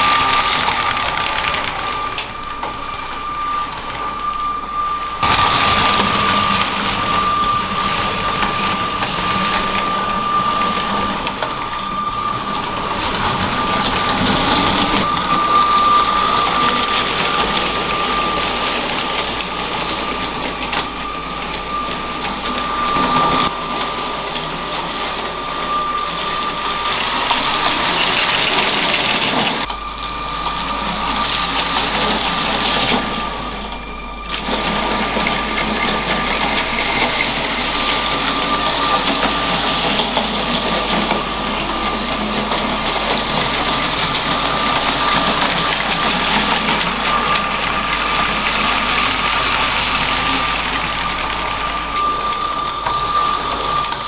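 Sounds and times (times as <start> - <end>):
small electric motor whine: 0.0 - 54.0
toy train wheels rattling on track: 0.0 - 54.0.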